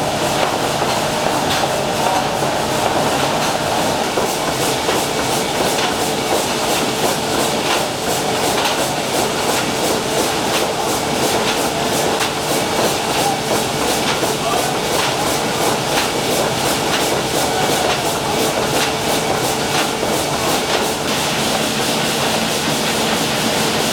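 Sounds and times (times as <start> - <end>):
steam engine rhythmic clatter: 0.0 - 23.9.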